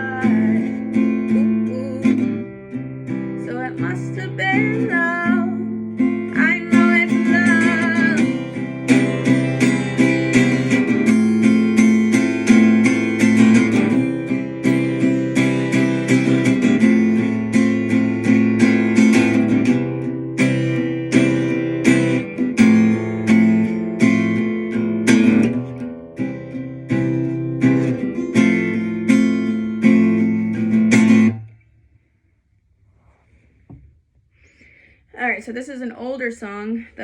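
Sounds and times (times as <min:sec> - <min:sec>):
acoustic guitar strumming: 0:00.0 - 0:32.1.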